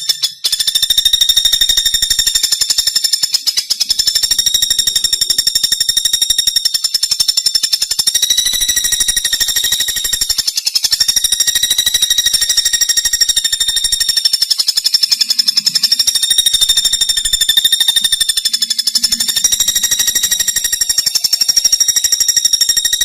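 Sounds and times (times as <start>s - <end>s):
woodpecker rattling trill: 0.0s - 23.0s.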